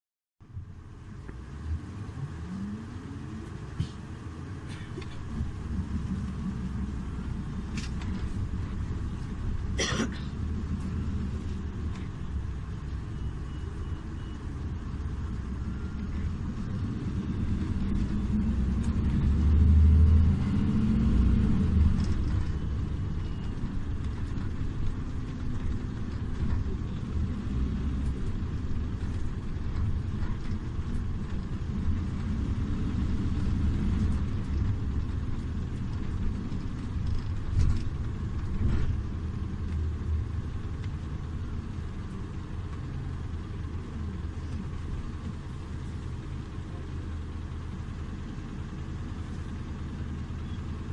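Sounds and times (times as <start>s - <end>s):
bus engine rumbling: 0.4s - 50.9s.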